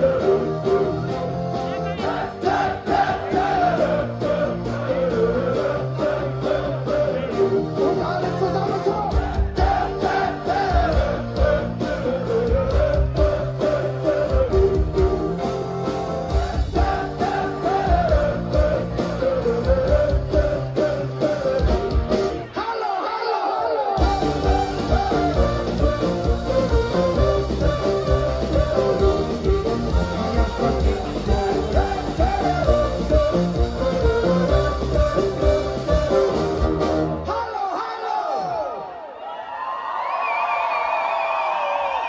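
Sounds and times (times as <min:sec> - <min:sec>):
crowd singing wordless melody: 0:00.0 - 0:37.4
live band playing upbeat song: 0:00.0 - 0:38.2.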